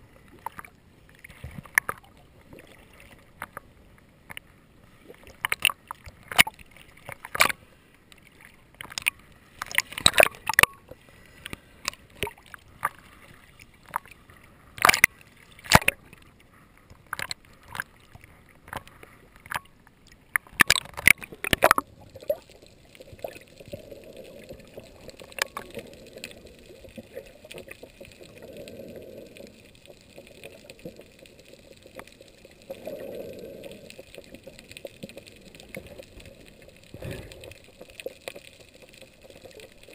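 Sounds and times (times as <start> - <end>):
low underwater rush: 0.0 - 39.9.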